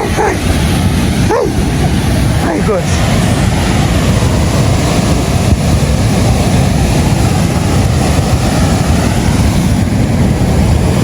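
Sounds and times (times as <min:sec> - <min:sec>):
waterfall rushing: 0:00.0 - 0:11.0
wind buffeting microphone: 0:00.0 - 0:11.0.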